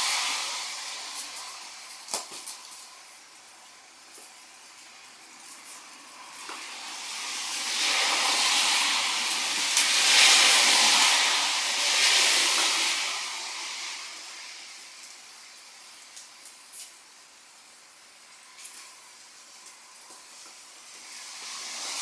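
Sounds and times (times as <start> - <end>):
hiss: 0.0 - 17.2, 20.4 - 22.0.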